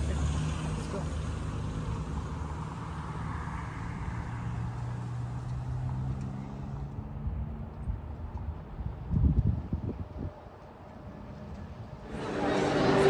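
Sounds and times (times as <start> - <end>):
traffic rushing: 0.0 - 8.9, 10.7 - 13.0
vehicle engine hum: 0.0 - 13.0.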